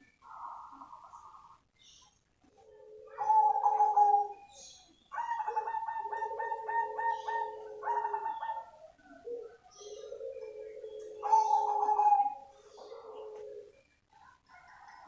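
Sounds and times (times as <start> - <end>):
dove cooing: 0.2 - 1.6, 2.4 - 15.0.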